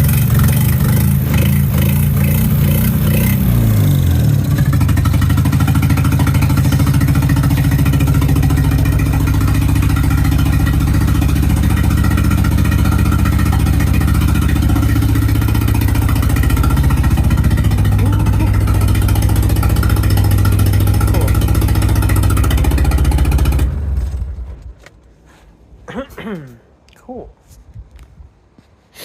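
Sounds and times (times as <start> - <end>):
car engine idling: 0.0 - 24.8.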